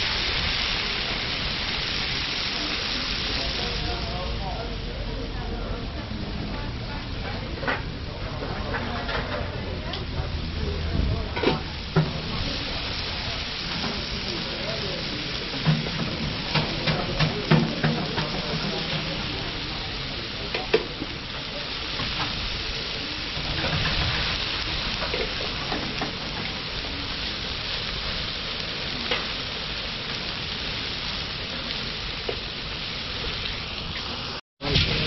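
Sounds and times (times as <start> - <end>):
chicken sizzling on griddle: 0.0 - 35.0.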